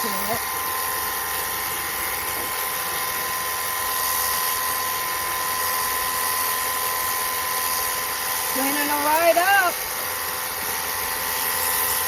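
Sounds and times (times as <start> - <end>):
pressure washer pump whining: 0.0 - 12.0.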